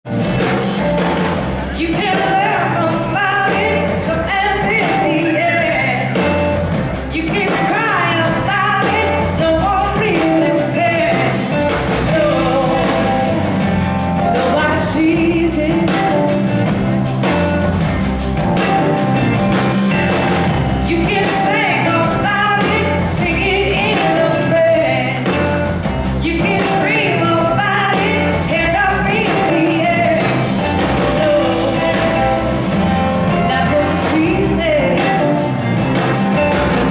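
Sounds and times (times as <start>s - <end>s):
live rock band playing: 0.0s - 36.9s
woman singing: 1.6s - 16.6s, 20.8s - 35.7s.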